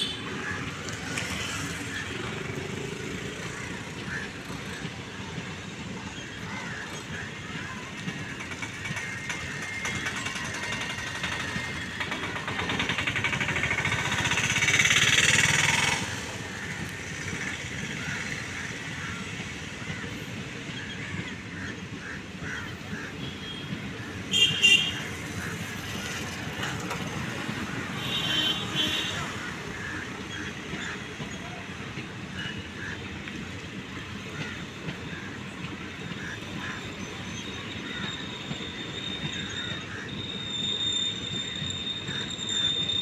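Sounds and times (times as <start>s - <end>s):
passenger train rolling past: 0.0s - 43.0s
road traffic: 0.0s - 43.0s.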